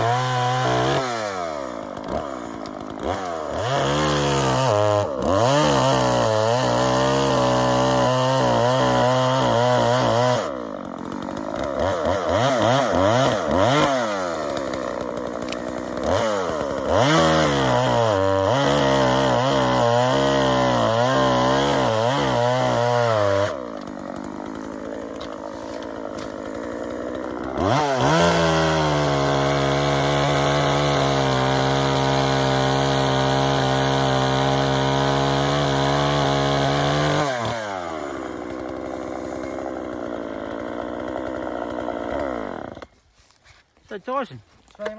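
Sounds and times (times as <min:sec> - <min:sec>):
chainsaw cutting hard timber: 0:00.0 - 0:44.9.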